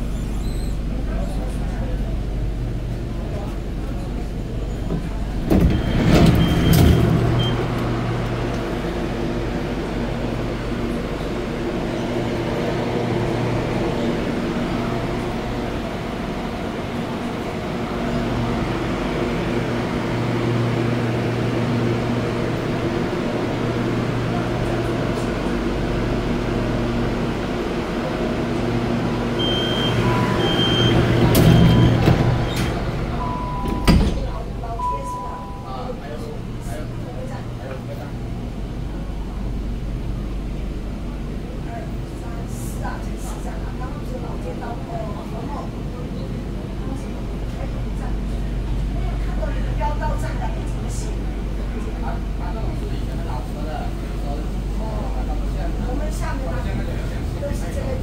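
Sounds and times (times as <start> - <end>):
train equipment humming: 0.0 - 58.0.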